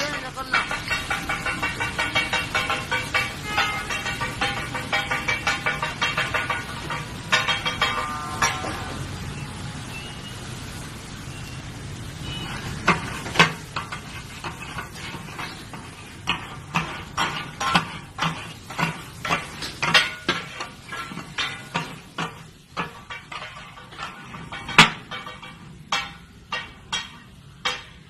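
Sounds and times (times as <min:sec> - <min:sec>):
metal spatulas clacking on griddle: 0:00.0 - 0:09.0, 0:12.2 - 0:28.0
oil sizzling on a griddle: 0:00.0 - 0:28.0.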